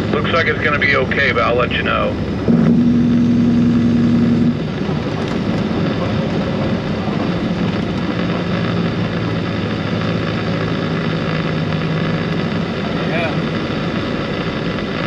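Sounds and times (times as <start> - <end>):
low hum: 0.0 - 15.0
road noise: 0.0 - 15.0
vehicle engine drone: 0.0 - 15.0.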